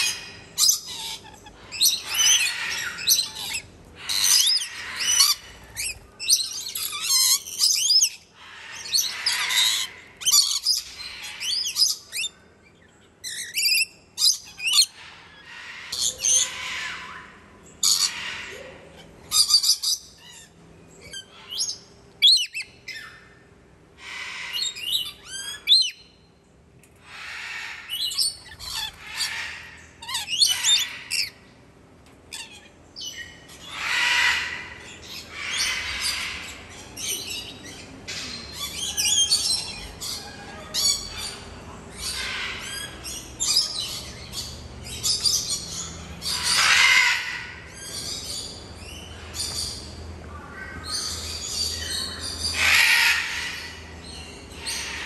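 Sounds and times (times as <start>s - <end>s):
parrots squawking and chattering: 0.0s - 26.0s, 26.9s - 55.0s.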